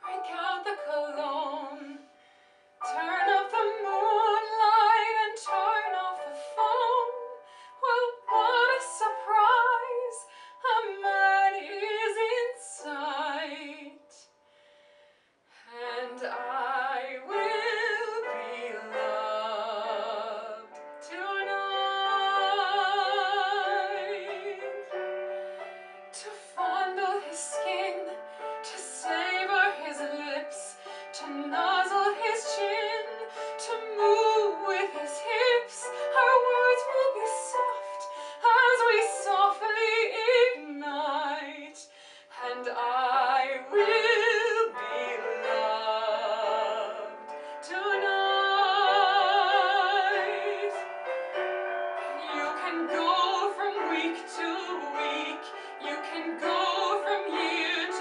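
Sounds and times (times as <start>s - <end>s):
woman singing a ballad: 0.0s - 2.2s, 2.8s - 14.3s, 15.6s - 50.9s, 52.1s - 58.0s.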